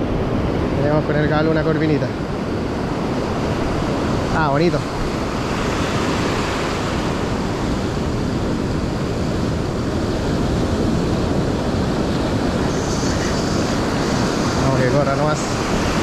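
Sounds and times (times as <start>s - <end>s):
ocean surf breaking on beach: 0.0s - 16.0s
wind on microphone: 0.0s - 16.0s.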